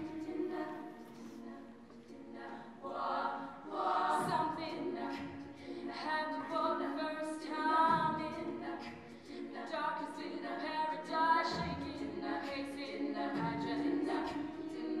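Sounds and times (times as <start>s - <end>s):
woman singing lead: 0.0s - 15.0s
women singing backing harmonies: 0.0s - 15.0s.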